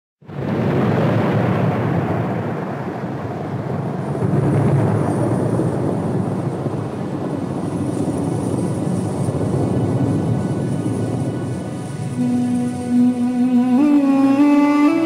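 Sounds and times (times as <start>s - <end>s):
rolling thunder rumble: 0.2s - 15.0s.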